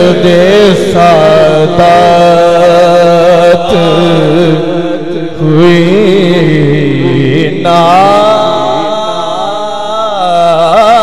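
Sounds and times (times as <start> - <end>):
men singing into microphones: 0.0 - 11.0.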